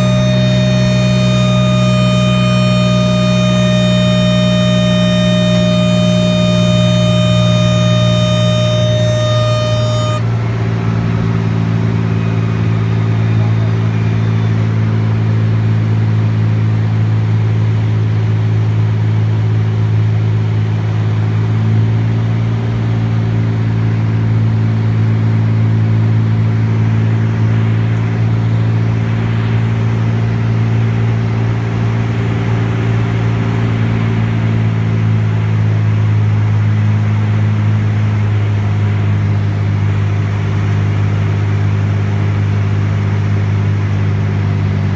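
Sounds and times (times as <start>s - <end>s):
propeller plane engine drone: 0.0s - 44.9s.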